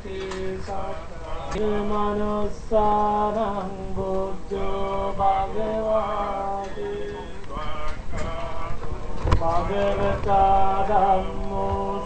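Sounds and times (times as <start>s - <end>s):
man chanting a prayer: 0.0s - 12.0s.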